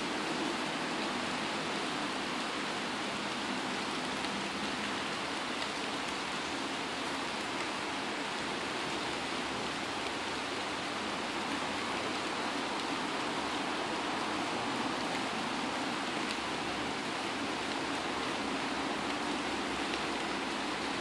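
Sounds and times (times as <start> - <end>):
rain falling on trees: 0.0 - 21.0.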